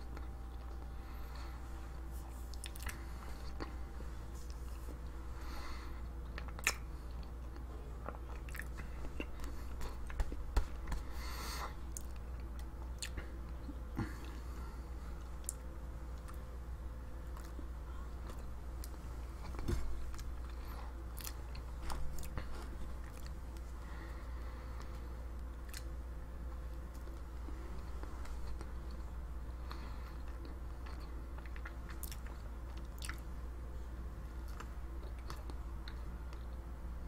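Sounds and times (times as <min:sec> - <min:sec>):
person chewing: 0:00.0 - 0:14.6, 0:15.2 - 0:16.5, 0:17.3 - 0:25.9, 0:27.8 - 0:33.3, 0:34.4 - 0:36.6
steady low hum: 0:00.0 - 0:37.0.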